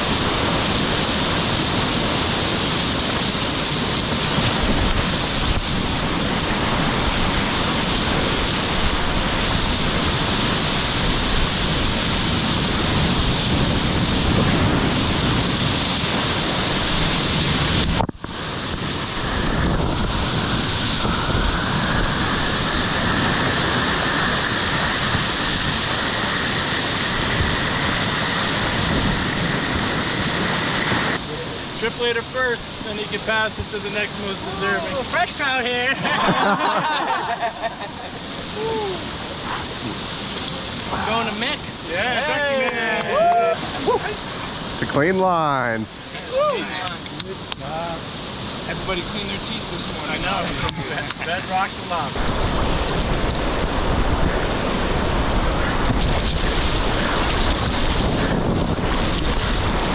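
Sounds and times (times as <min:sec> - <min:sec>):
rushing whitewater: 0:00.0 - 0:59.9
wind buffeting microphone: 0:00.0 - 0:59.9.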